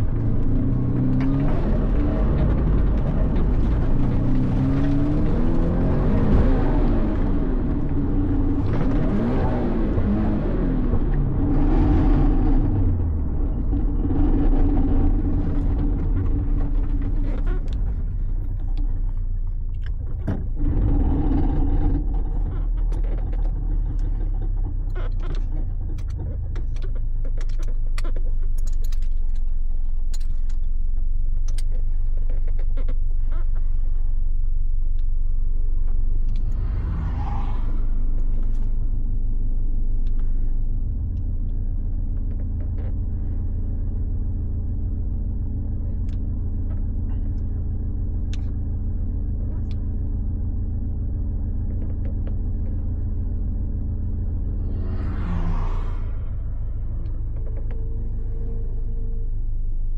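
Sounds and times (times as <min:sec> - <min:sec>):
car engine running at low revs: 0:00.0 - 0:59.9.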